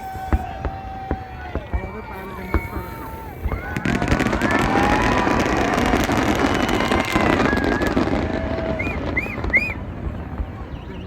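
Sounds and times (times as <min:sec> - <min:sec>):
faint shouts: 0:00.0 - 0:11.0
fireworks crackling: 0:00.0 - 0:11.0
large crowd noise: 0:00.0 - 0:11.0
rising-and-falling whistles: 0:00.0 - 0:11.0.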